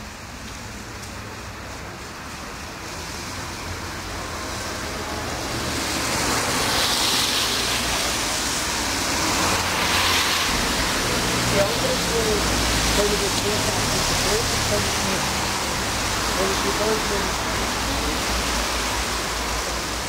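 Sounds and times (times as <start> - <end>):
tyres hissing on wet road: 0.0 - 20.0.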